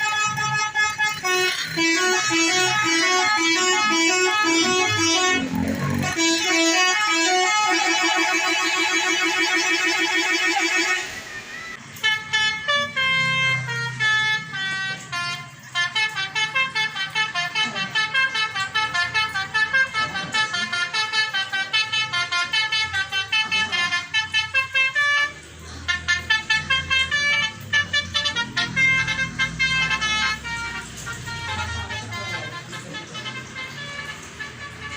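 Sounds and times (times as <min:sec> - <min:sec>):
multi-tone air horn tune: 0:00.0 - 0:34.9.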